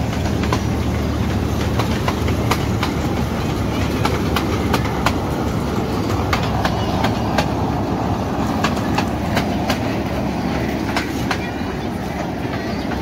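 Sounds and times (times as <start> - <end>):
train carriages rumbling: 0.0 - 13.0
wheels clicking over rail joints: 0.0 - 13.0.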